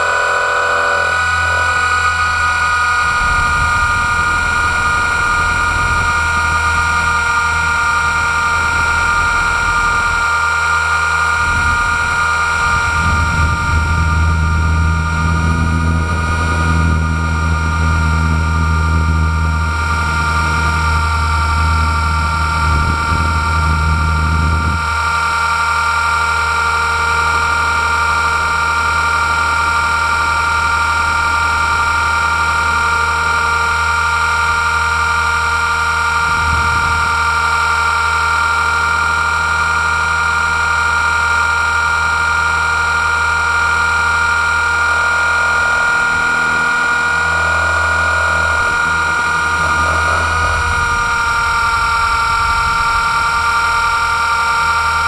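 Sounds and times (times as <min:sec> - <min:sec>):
buzz of helicopter rotors: 0:00.0 - 0:55.0
deep low drone: 0:00.0 - 0:55.0
high motor whine: 0:00.0 - 0:55.0.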